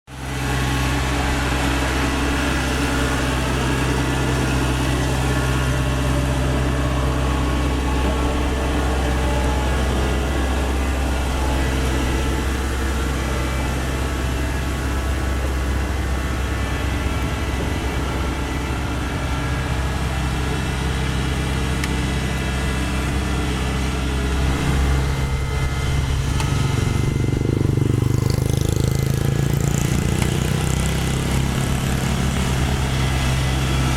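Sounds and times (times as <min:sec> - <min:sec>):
combine harvester diesel engine: 0:00.1 - 0:33.9.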